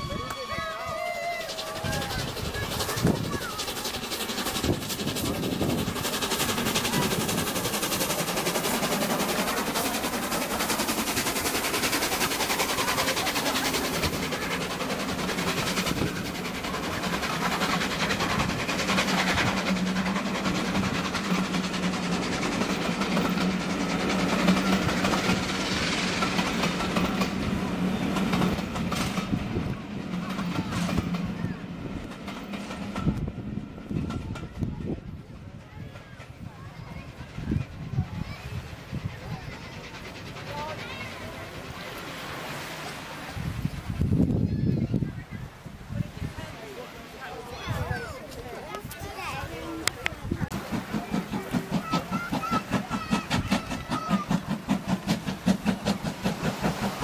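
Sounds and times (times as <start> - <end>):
train wheels clattering on rails: 0.0 - 45.0, 47.5 - 57.0.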